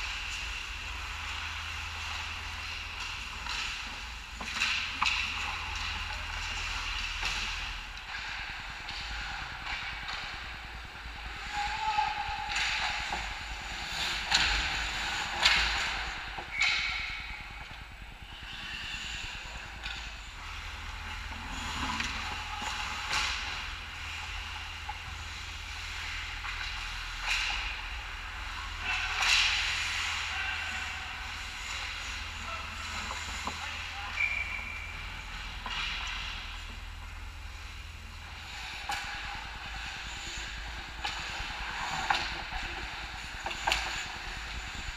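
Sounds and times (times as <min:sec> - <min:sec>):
hockey sticks and puck cracking: 0:00.1 - 0:17.3, 0:19.5 - 0:37.6, 0:38.4 - 0:44.9.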